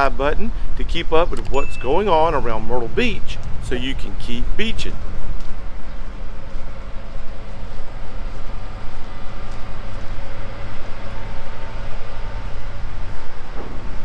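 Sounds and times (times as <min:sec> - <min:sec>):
constant machinery hum: 0:00.0 - 0:14.0
low mechanical rumble: 0:00.0 - 0:14.0.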